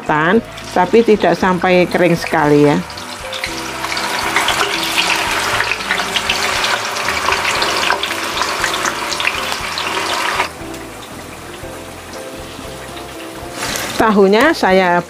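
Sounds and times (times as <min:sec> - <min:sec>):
tofu sizzling in hot oil: 0:00.1 - 0:15.0.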